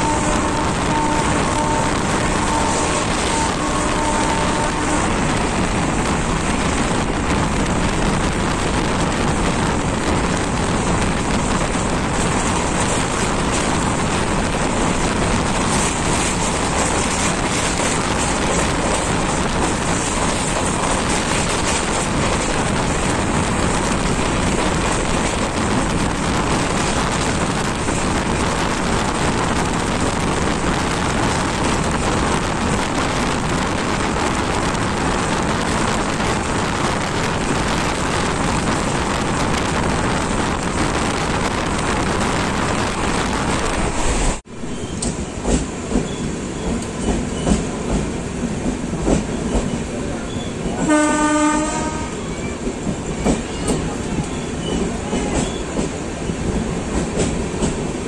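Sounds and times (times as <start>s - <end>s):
wind buffeting microphone: 0.0s - 49.6s
train wheels rushing on rails: 0.0s - 58.0s.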